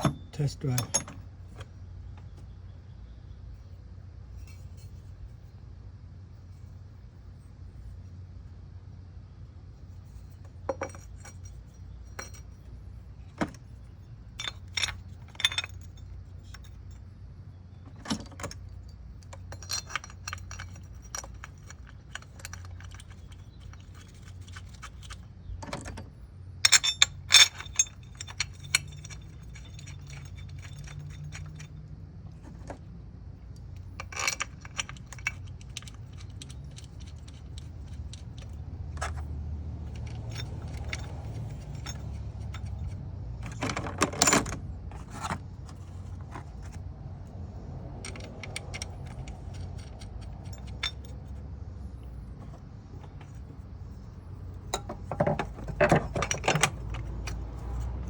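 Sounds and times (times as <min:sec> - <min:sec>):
metal tools clinking and clanking: 0:00.0 - 0:01.7, 0:10.2 - 0:17.0, 0:17.7 - 0:32.9, 0:33.6 - 0:46.8, 0:47.9 - 0:58.0.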